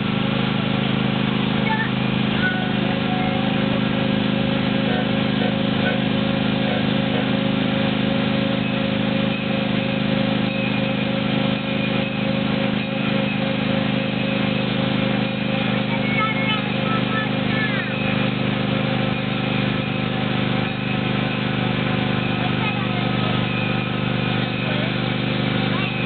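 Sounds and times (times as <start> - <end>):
ride-on train engine running: 0.0 - 26.0.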